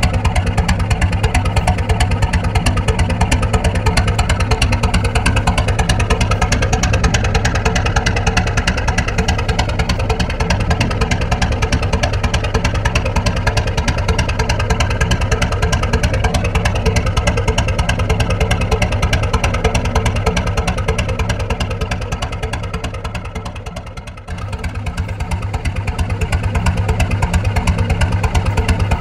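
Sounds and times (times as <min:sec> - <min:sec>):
diesel boat engine running: 0:00.0 - 0:29.0.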